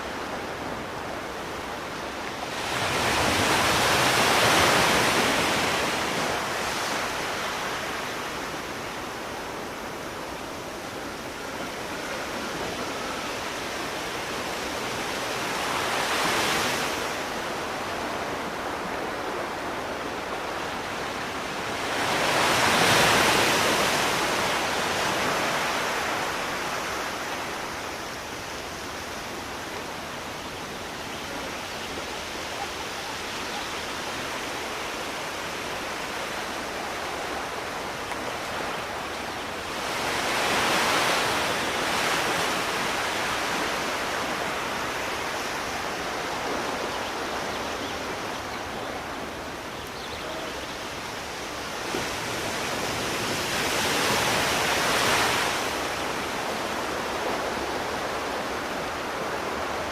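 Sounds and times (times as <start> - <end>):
surf rushing: 0.0 - 59.9
waves breaking on shore: 0.0 - 59.9.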